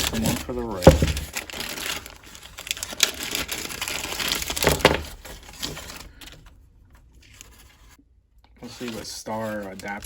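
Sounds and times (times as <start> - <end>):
packaging crinkling and rustling: 0.0 - 8.0, 8.6 - 10.0.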